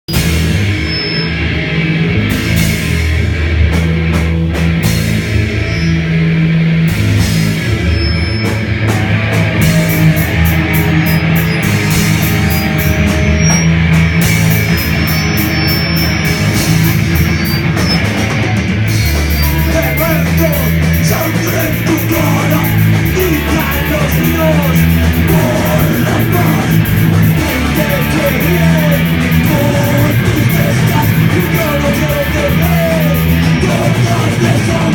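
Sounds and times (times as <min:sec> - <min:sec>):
bass notes: 0:00.1 - 0:34.9
distorted electric guitar: 0:00.1 - 0:34.9
drums with cymbal hits: 0:00.1 - 0:34.9.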